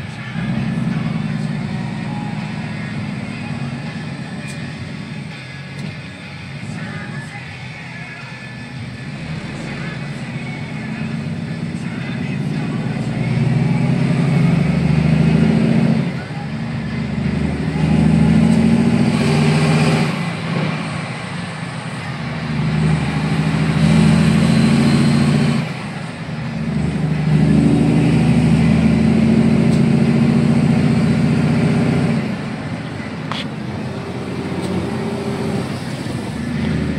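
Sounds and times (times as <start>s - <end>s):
truck diesel engine under power: 0.0s - 36.9s.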